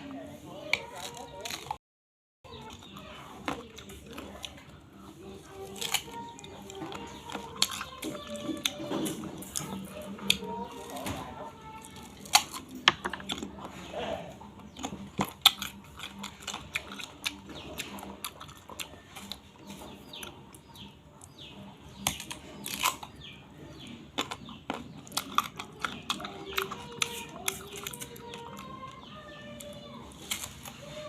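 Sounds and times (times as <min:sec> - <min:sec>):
chewing and crunching food: 0:00.0 - 0:01.8, 0:02.4 - 0:31.0.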